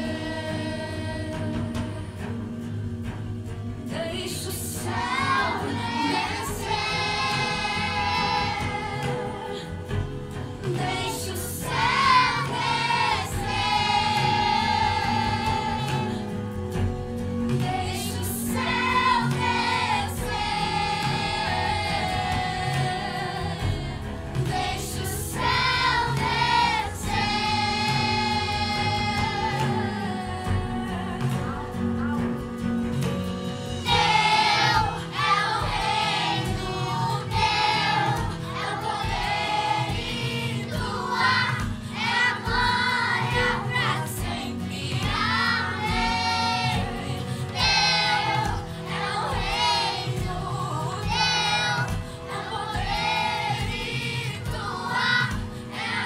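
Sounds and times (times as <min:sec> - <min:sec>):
children's choir singing: 0:00.0 - 0:02.3, 0:03.9 - 0:16.6, 0:17.5 - 0:31.7, 0:33.8 - 0:56.0
instrumental backing music: 0:00.0 - 0:56.0.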